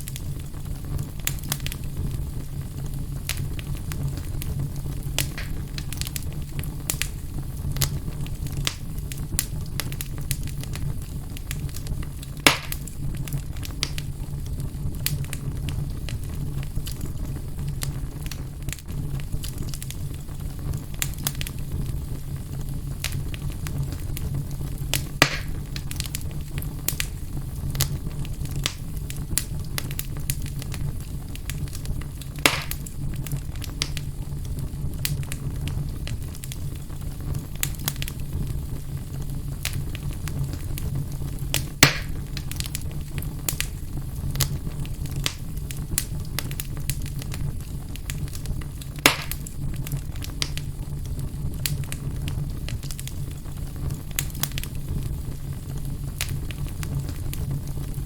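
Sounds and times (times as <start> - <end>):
loud fire pops: 0.0 - 58.0
low fire rumble: 0.0 - 58.0
wood fire crackling: 0.0 - 58.0.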